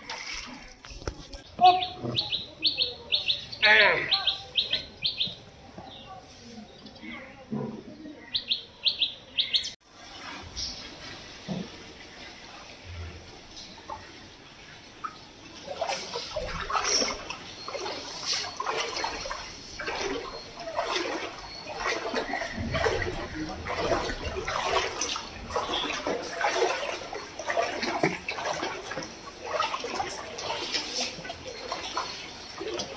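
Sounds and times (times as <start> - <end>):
water splashing and sloshing: 0.0 - 3.4, 9.8 - 32.9.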